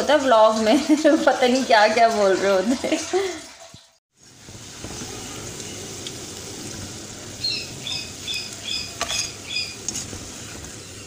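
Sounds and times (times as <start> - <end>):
fries sizzling in hot oil: 0.0 - 11.0.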